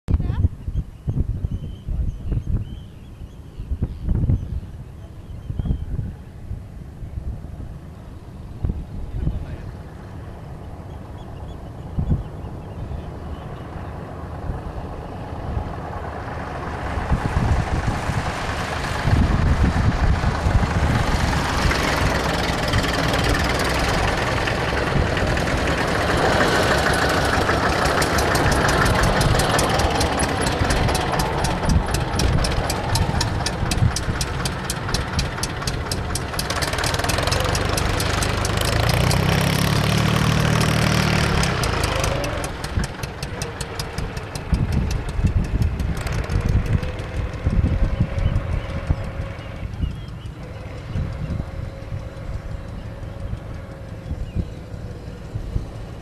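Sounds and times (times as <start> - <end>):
tractor engines driving past: 4.7 - 56.0.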